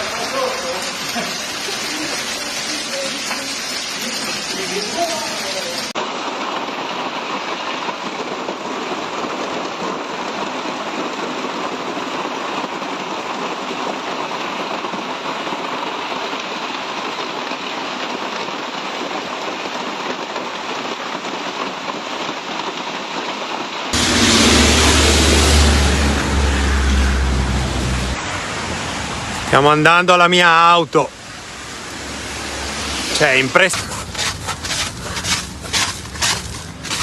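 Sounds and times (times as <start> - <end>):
heavy rain downpour: 0.0 - 37.0.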